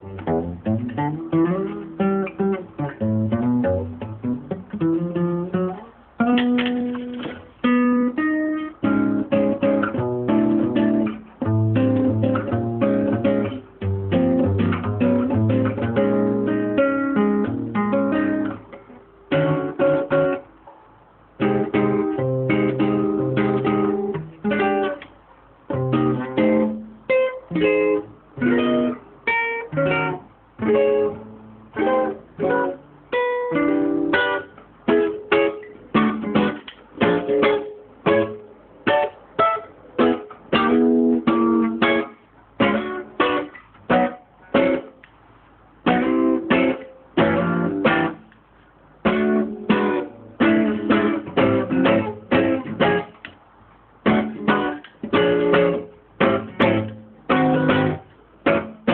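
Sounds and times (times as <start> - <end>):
plucked string instrument: 0.0 - 20.8, 21.4 - 45.1, 45.9 - 53.4, 54.0 - 58.9.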